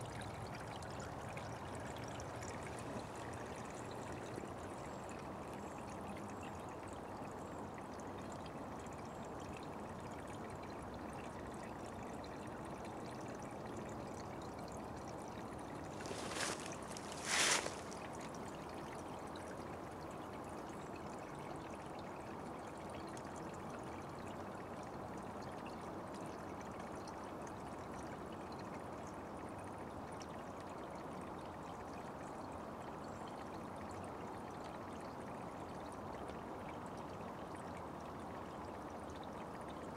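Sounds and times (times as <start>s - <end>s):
forest brook trickling: 0.0s - 39.9s.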